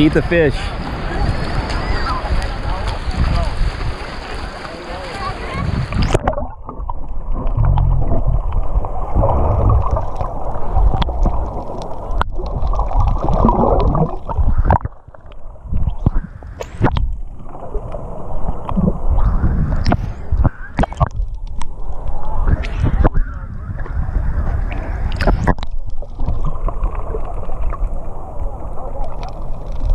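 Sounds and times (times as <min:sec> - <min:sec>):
underwater gurgling and sloshing: 0:00.0 - 0:29.9.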